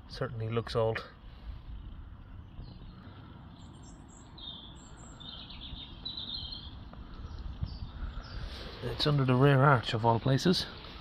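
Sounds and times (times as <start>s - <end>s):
low outdoor rumble: 0.0s - 11.0s
birds chirping and singing: 1.4s - 11.0s.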